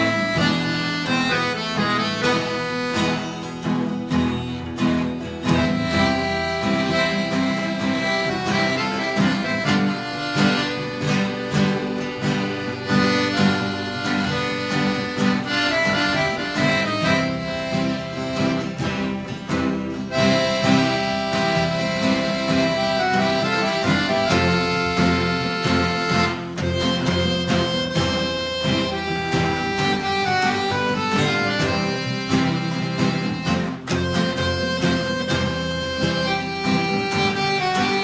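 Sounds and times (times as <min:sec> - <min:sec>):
instrumental background music: 0:00.0 - 0:38.0.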